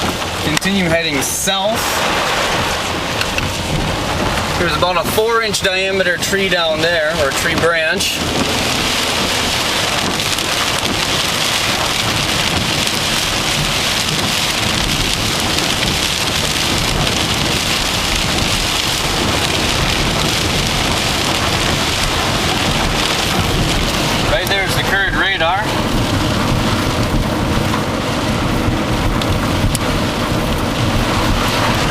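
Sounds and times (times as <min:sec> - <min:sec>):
heavy rain beating on a car: 0:00.0 - 0:31.9.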